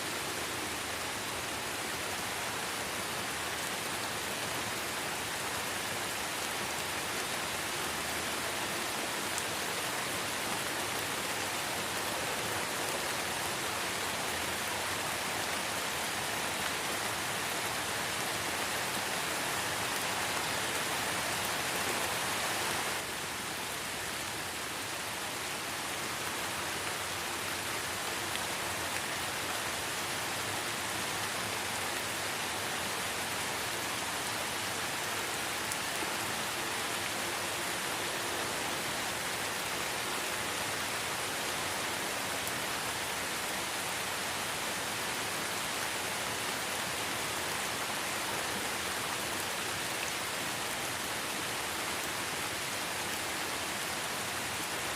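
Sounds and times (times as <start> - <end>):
light rain hiss: 0.0 - 54.9.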